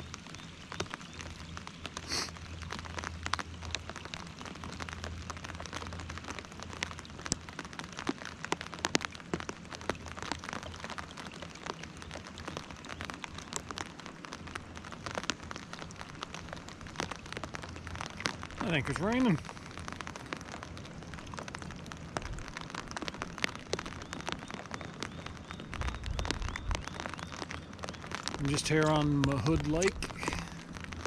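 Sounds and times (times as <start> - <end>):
light rain on water and fabric: 0.0 - 31.0.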